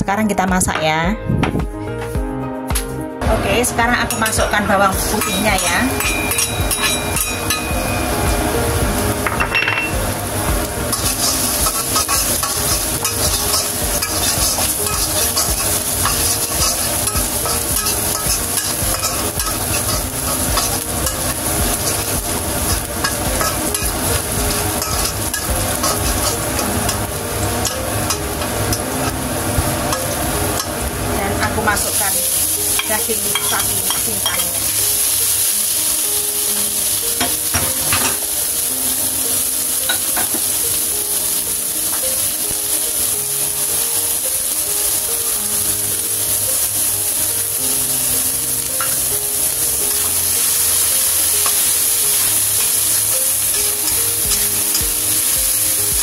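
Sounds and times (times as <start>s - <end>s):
food sizzling in a wok: 3.2s - 56.0s.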